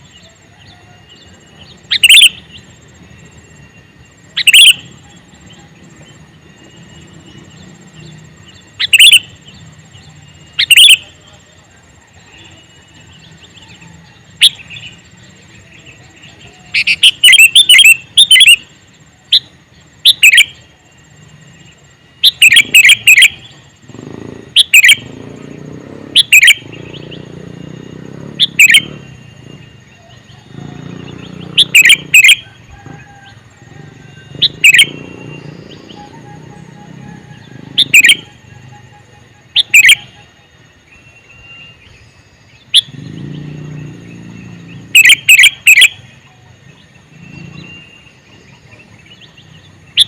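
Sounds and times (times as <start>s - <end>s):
bird chirping: 0.0s - 50.0s.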